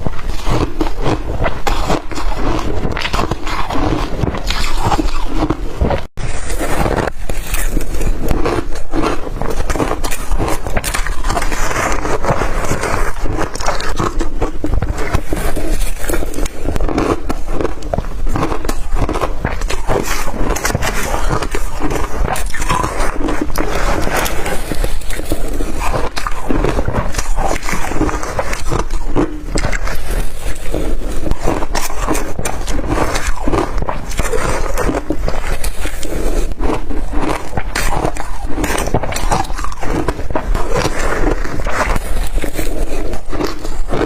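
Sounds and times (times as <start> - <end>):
crushed ice being chewed: 0.0 - 44.0.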